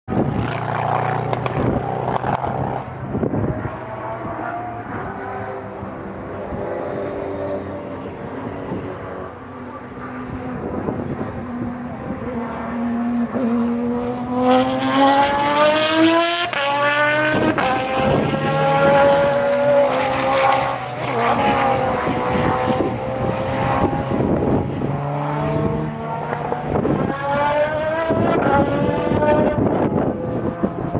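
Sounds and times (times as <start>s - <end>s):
race car engine accelerating: 0.1s - 30.9s.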